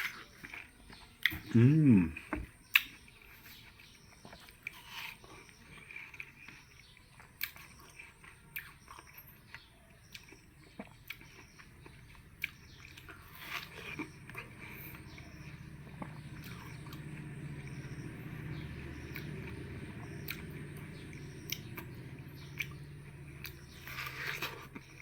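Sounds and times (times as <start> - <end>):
person chewing watermelon: 0.0 - 25.0.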